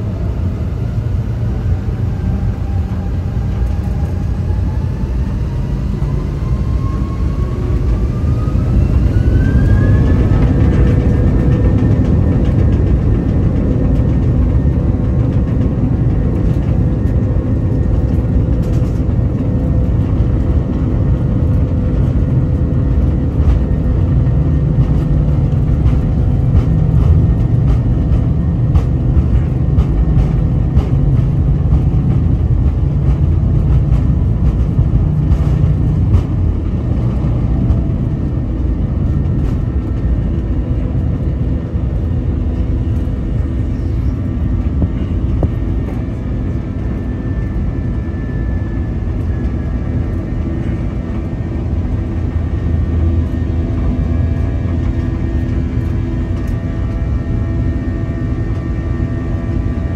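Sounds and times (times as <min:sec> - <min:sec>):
heavy low rumble: 0:00.0 - 0:59.9
jet engines whining: 0:00.0 - 0:59.9.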